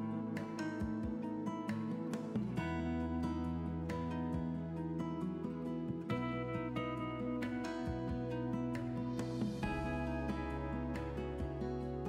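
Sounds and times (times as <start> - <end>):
gentle background music: 0.0 - 12.0
plucked guitar notes: 0.0 - 12.0.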